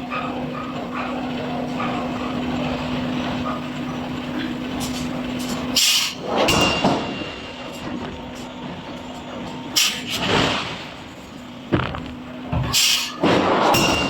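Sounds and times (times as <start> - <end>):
industrial machinery humming: 0.0 - 14.0.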